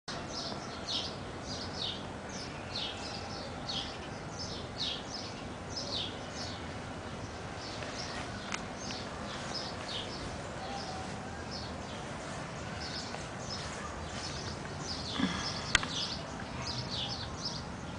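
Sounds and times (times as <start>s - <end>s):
songbird chirping: 0.1s - 17.9s
steady low hum: 0.1s - 17.9s.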